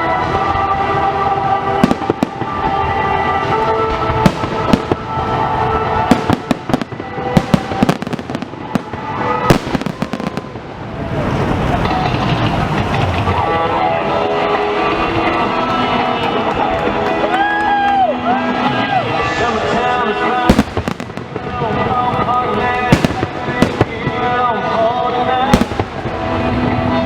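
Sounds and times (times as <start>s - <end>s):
background music: 0.0s - 27.0s
crowd noise: 0.0s - 27.0s
fireworks bangs and crackling: 0.0s - 27.0s.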